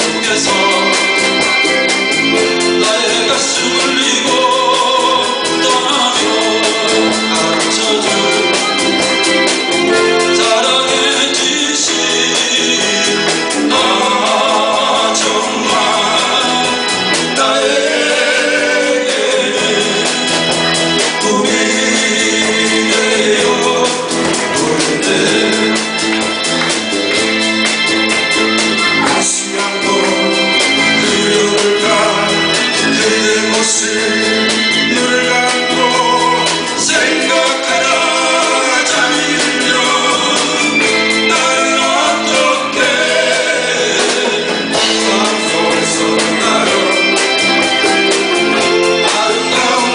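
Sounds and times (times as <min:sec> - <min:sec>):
electronic keyboard and band: 0:00.0 - 0:49.9
person singing: 0:00.0 - 0:49.9.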